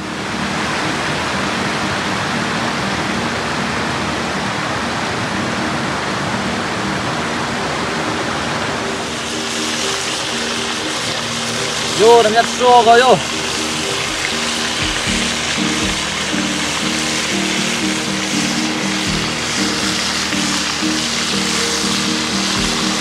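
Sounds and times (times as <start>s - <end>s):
river water rushing over rock: 0.0s - 23.0s
soft background music: 0.0s - 23.0s.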